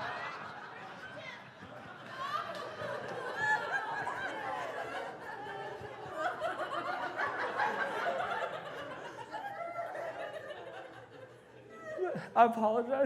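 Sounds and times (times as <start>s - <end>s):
audience laughing: 0.0s - 11.7s.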